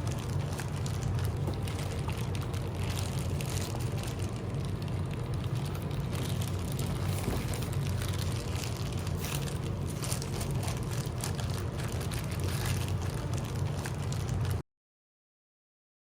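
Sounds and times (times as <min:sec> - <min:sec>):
low hum: 0:00.0 - 0:14.6.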